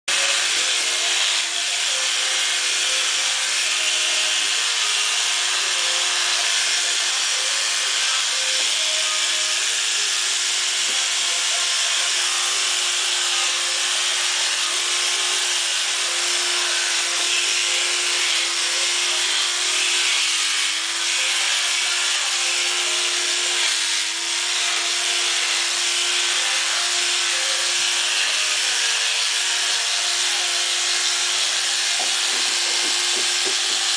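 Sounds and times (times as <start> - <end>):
electric clippers running: 0.1 - 33.9.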